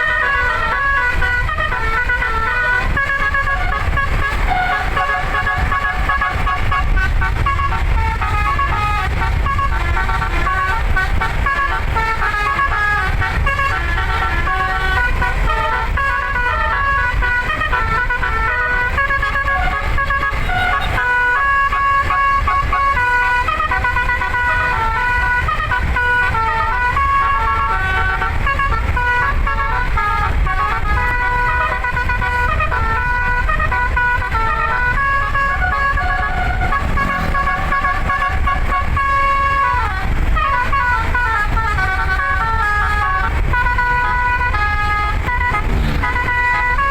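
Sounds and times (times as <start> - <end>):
musical air horn melody: 0.0 - 46.9
steady low rumble: 0.1 - 46.9.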